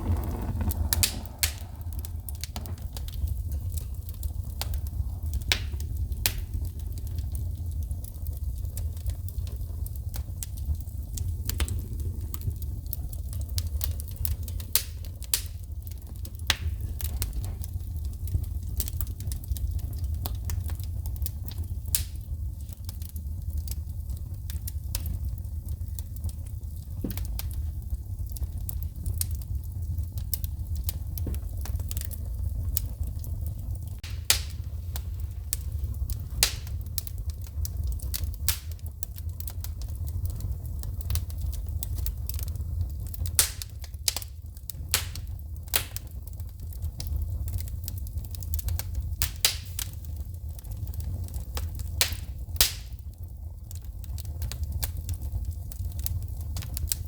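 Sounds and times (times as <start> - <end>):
low rumble of fire: 0.0 - 57.0
wood fire crackling and popping: 0.0 - 57.0.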